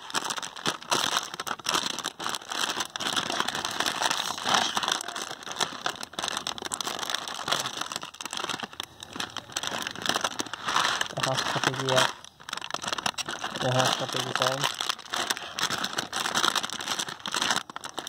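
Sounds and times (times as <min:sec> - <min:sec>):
snack packet crinkling: 0:00.0 - 0:18.0.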